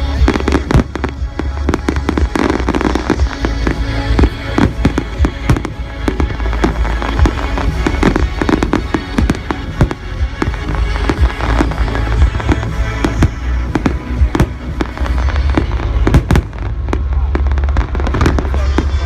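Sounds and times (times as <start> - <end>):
fireworks bursting: 0.0 - 19.0
music: 0.0 - 19.0.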